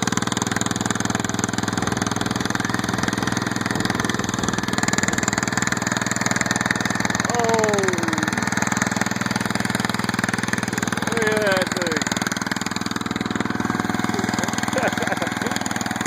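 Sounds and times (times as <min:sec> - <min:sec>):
loud unmuffled tractor engine: 0:00.0 - 0:16.0.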